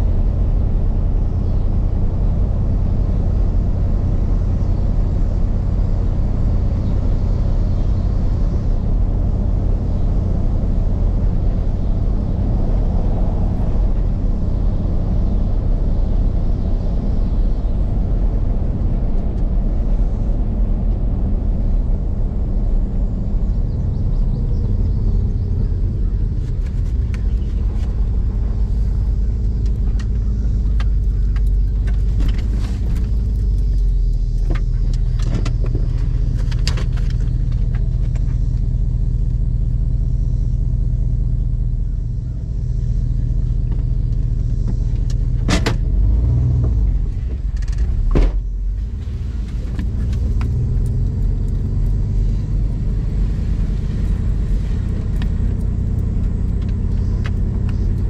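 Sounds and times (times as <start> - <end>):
truck engine rumbling: 0.0 - 58.0.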